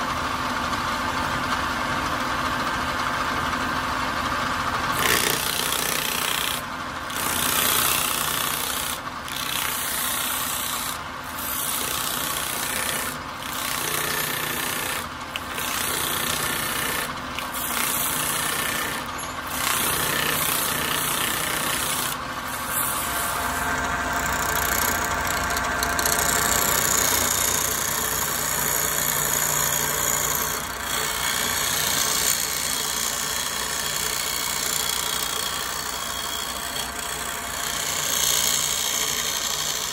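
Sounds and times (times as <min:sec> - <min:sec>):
turning tool cutting wood: 0:04.9 - 0:39.9.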